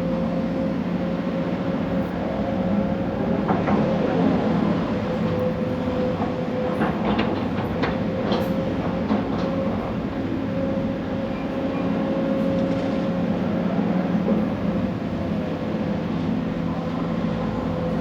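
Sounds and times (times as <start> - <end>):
excavator engine hum: 0.0 - 18.0.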